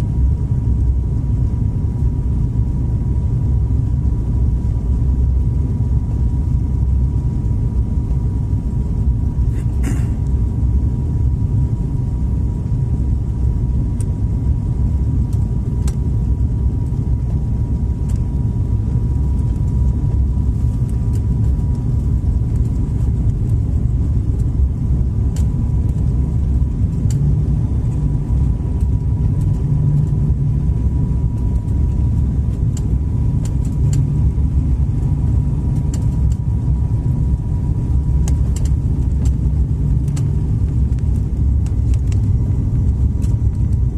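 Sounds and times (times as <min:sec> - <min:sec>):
airliner engine rumble: 0:00.0 - 0:43.9.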